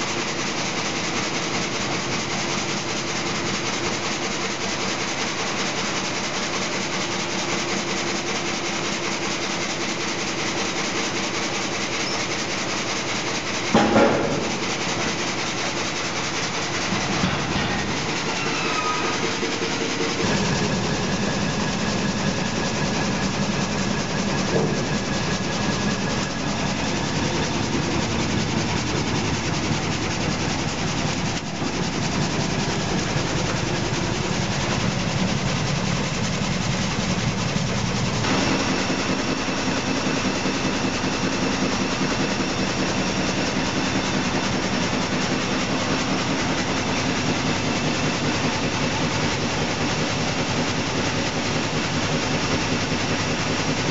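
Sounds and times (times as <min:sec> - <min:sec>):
rhythmic mechanical clatter: 0:00.0 - 0:53.9
steady machine tones: 0:08.5 - 0:53.9.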